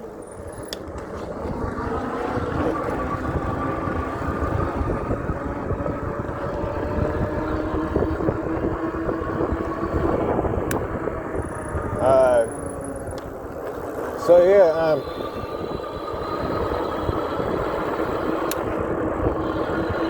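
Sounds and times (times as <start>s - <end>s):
electric bike motor whine: 0.0s - 20.0s
road rumble: 0.0s - 20.0s
wind on microphone: 0.0s - 20.0s.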